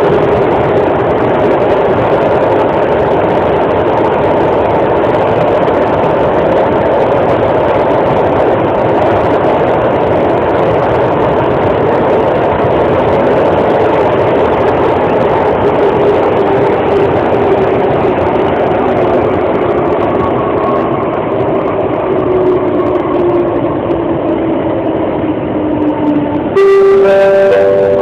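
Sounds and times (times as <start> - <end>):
metro train running noise: 0.0 - 28.0.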